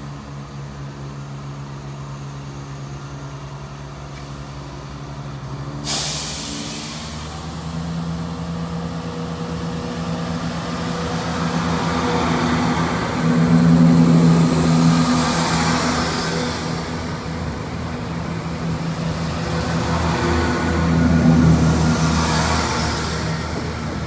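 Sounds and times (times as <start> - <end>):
diesel train engines humming: 0.0 - 24.0.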